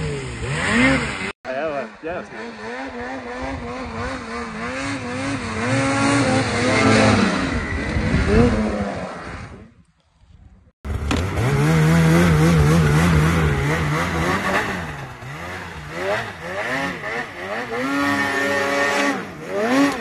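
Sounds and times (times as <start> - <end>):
snowmobile engines revving: 0.0 - 9.8, 10.9 - 20.0.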